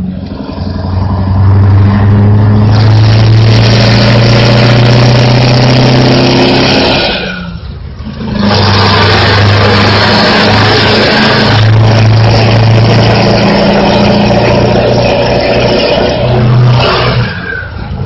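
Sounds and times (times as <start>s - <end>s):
truck engine under load: 0.0s - 18.0s.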